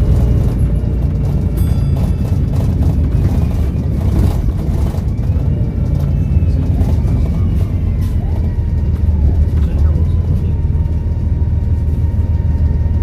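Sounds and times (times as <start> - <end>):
diesel bus engine rumbling: 0.0 - 13.0.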